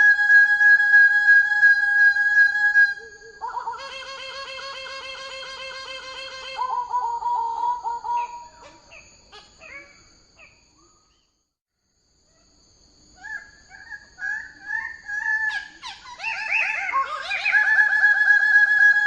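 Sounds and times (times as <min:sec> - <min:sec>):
bird calling repeated notes: 0:00.0 - 0:11.3, 0:13.2 - 0:19.0.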